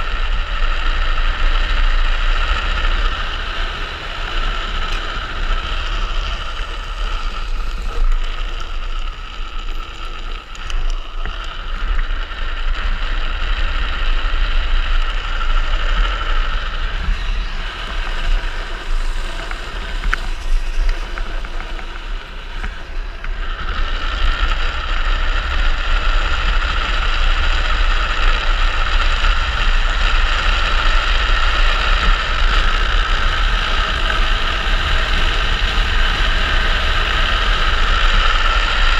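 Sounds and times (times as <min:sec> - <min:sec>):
wheels rumbling on asphalt: 0:00.0 - 0:38.9
wind rushing over microphone: 0:00.0 - 0:38.9.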